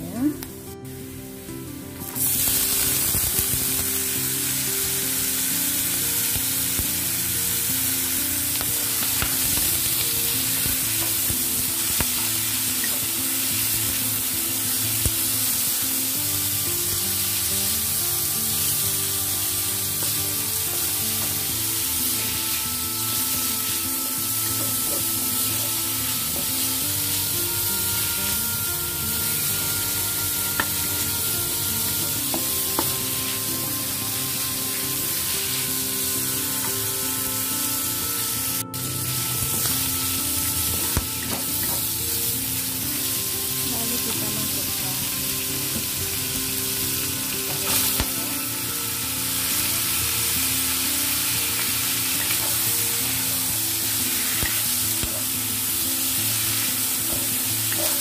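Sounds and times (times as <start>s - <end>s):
mushrooms sizzling in hot oil: 0.4s - 58.0s.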